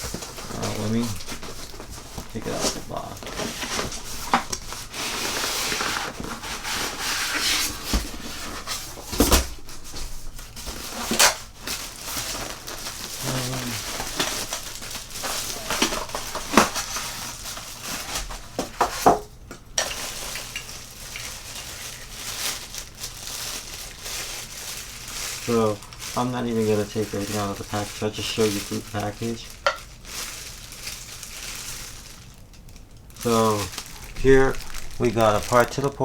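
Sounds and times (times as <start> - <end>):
cardboard packaging rustling: 0.0 - 36.0.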